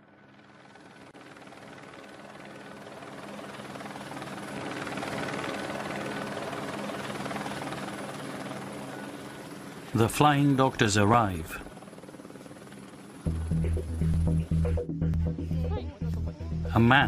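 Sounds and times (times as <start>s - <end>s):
helicopter rotor and turbine: 0.0s - 17.0s.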